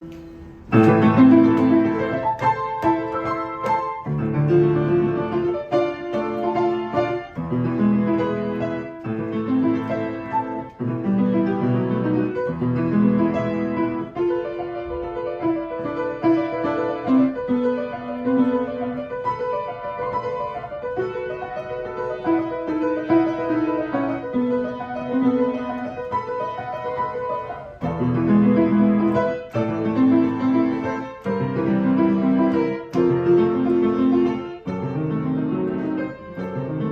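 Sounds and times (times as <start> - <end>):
solo piano playing slow piece: 0.0 - 36.9.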